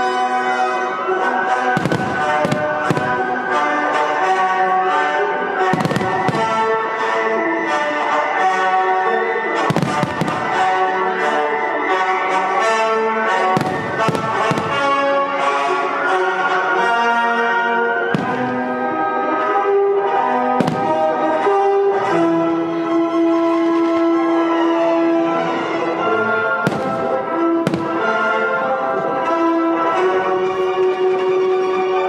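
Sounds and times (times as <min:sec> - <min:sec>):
brass orchestral music: 0:00.0 - 0:32.0.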